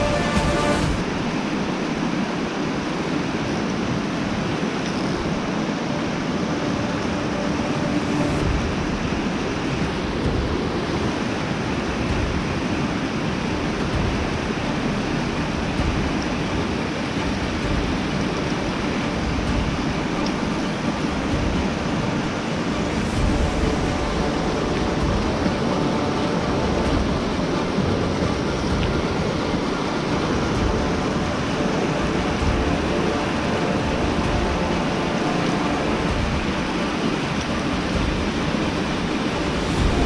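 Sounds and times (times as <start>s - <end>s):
low rumble: 0.0s - 2.1s, 5.3s - 40.0s
creek water rushing over rocks: 0.0s - 40.0s.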